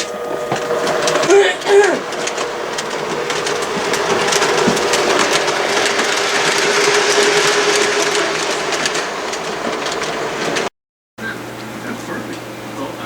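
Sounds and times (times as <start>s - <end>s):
electric motor humming: 0.0s - 10.7s
toy train wheels clicking on rails: 0.0s - 10.7s.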